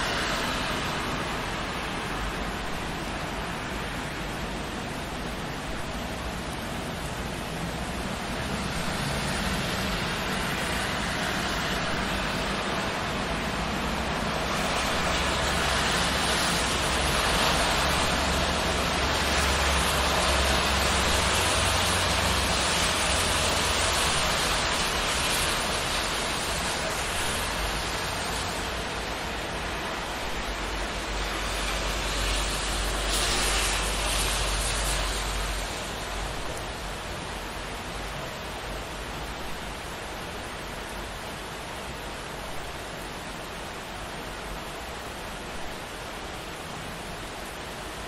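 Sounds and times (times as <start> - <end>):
car tyres hissing on wet road: 0.0 - 48.0
steady rain: 0.0 - 48.0.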